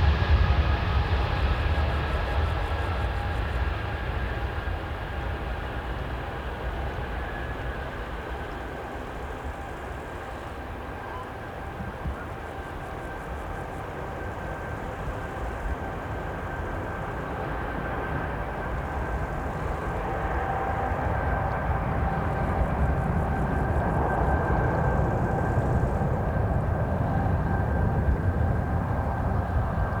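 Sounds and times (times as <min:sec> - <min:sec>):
jet engines at take-off power: 0:00.0 - 0:30.0.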